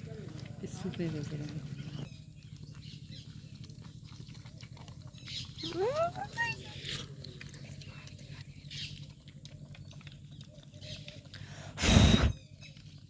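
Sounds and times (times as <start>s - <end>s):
puppies eating and licking: 0.0s - 13.0s.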